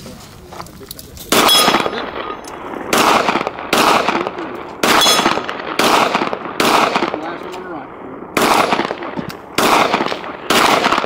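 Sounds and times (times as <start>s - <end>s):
rifle shots with echo: 1.3s - 11.0s.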